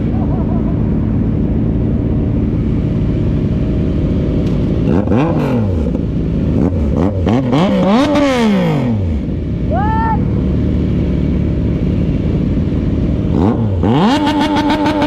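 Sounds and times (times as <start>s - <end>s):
motorcycle engine revving: 0.0s - 15.0s
road and wind noise: 0.0s - 15.0s.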